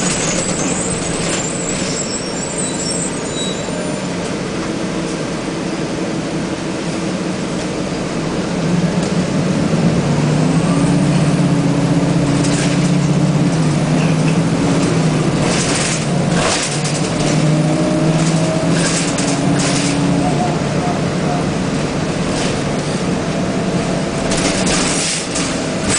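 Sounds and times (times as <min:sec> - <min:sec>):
bus engine accelerating: 0:00.0 - 0:25.9.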